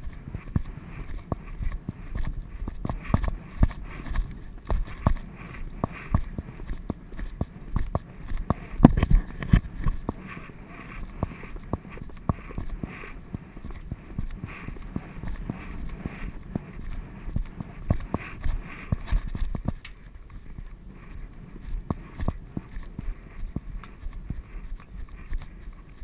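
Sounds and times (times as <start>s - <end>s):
horse hooves cantering on grass: 0.0s - 26.0s.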